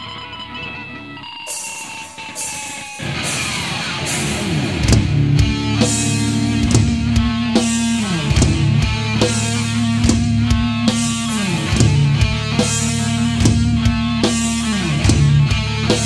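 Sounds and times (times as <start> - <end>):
heavy rock music: 0.0 - 16.0.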